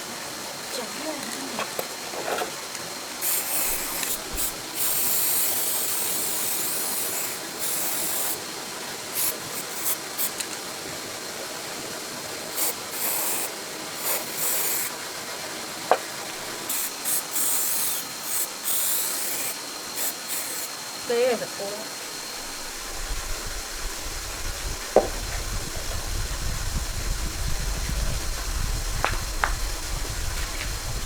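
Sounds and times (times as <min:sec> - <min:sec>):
hissing spray bursts: 0:03.1 - 0:10.8, 0:11.7 - 0:31.0.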